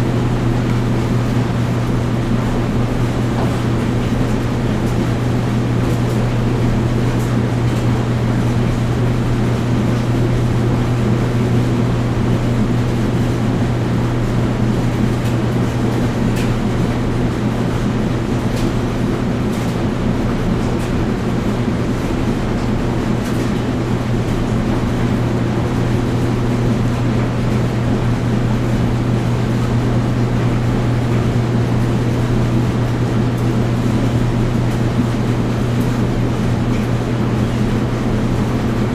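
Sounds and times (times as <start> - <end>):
noisy churning: 0.0 - 38.9
washing machine and dryer hum: 0.0 - 38.9.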